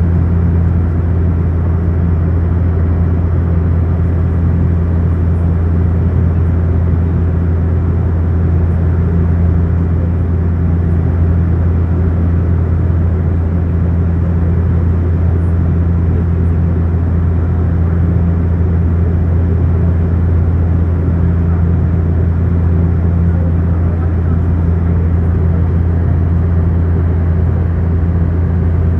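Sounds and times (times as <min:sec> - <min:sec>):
low-pitched engine drone: 0:00.0 - 0:28.9.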